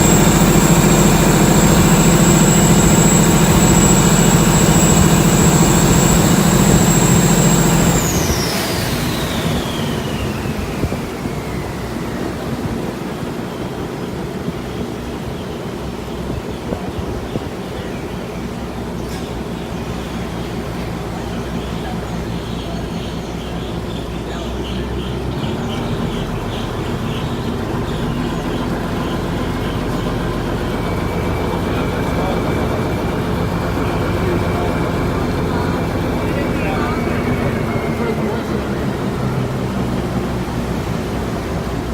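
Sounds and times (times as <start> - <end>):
boat diesel engine whining: 0.0 - 41.9.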